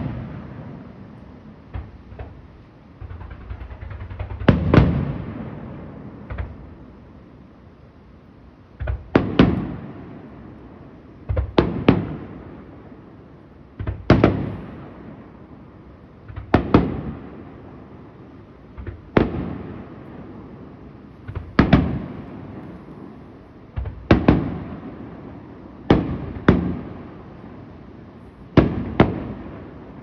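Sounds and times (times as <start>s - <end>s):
fireworks bangs: 0.0s - 7.2s, 8.8s - 30.0s.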